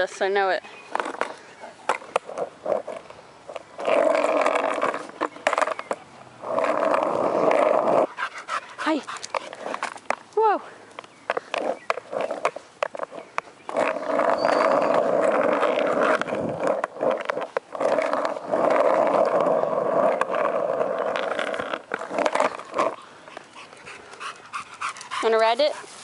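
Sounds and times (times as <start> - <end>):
skateboard wheels on asphalt: 0.0 - 26.0.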